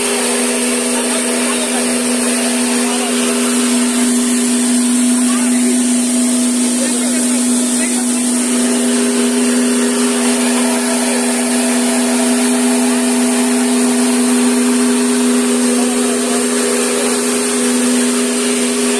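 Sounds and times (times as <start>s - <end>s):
electric rice mill running: 0.0s - 18.9s.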